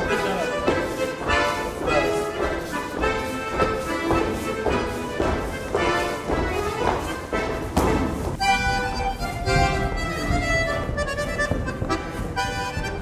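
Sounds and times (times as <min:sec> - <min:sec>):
accordion dance tune: 0:00.0 - 0:13.0
shoes knocking on floor: 0:00.0 - 0:13.0.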